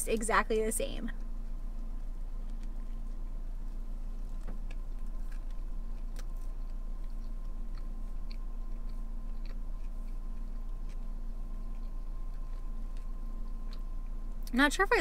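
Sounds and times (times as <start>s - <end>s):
steady low hum: 0.0s - 15.0s
person chewing food: 1.2s - 14.5s.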